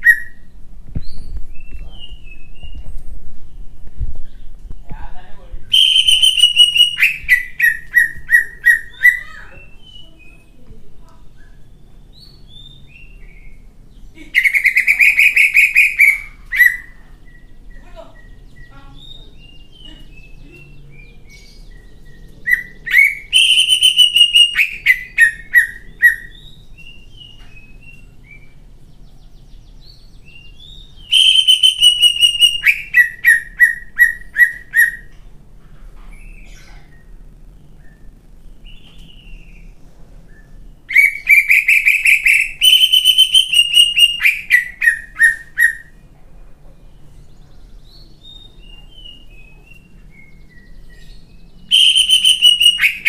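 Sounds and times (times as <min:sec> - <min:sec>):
bird singing sharp repeated notes: 0:00.0 - 0:05.0, 0:05.6 - 0:10.6, 0:11.3 - 0:35.2, 0:36.2 - 0:46.1, 0:46.9 - 0:53.0
soft bird chirps: 0:00.0 - 0:35.2, 0:36.0 - 0:53.0.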